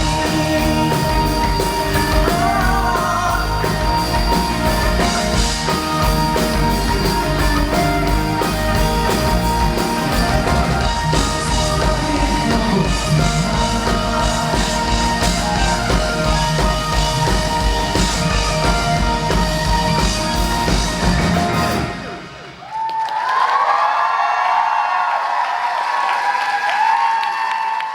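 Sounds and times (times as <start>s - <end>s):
live pop-rock band playing: 0.0s - 22.6s.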